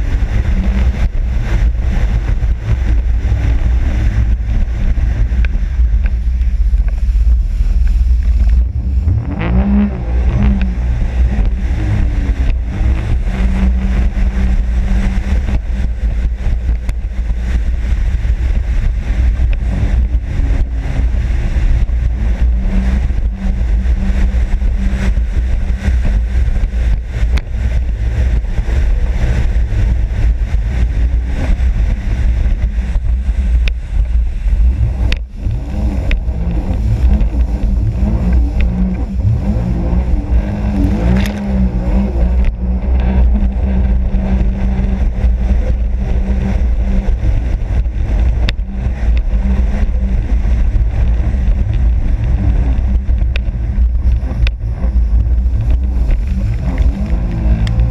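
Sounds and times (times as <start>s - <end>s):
jet ski engine: 0.0s - 57.9s.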